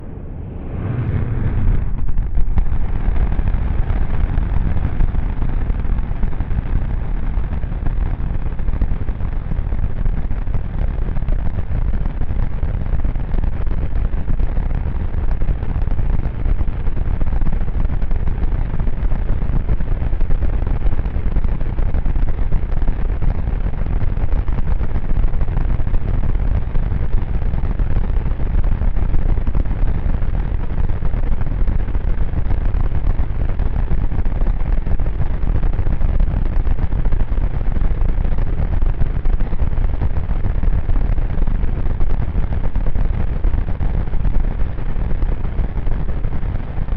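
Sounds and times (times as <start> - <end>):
rocket engines rumbling: 0.0 - 44.9.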